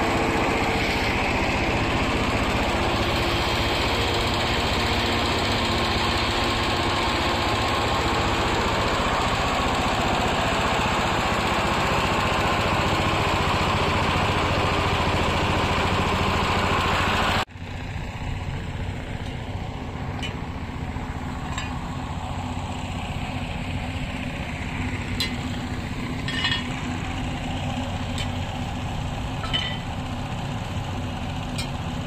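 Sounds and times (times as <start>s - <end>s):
engine humming: 0.0s - 32.0s.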